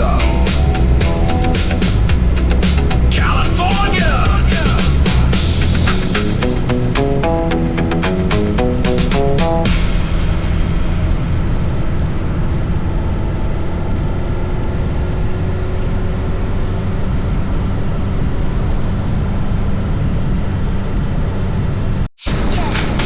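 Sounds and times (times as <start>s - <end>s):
motorcycle engine: 0.0s - 21.7s
wind and road noise: 0.0s - 23.0s.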